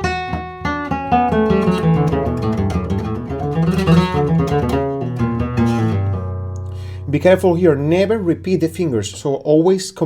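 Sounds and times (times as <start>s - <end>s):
flamenco guitar fast scale: 0.0s - 9.2s.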